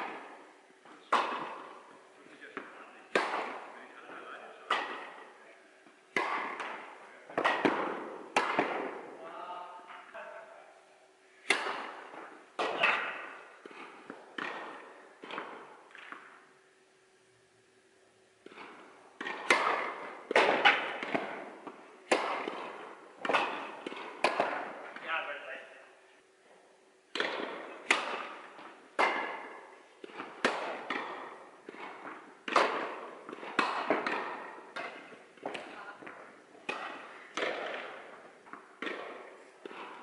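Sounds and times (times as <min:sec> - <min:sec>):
tennis ball hit and bouncing: 0:00.0 - 0:09.1, 0:11.4 - 0:16.5, 0:18.4 - 0:25.1, 0:27.1 - 0:40.0.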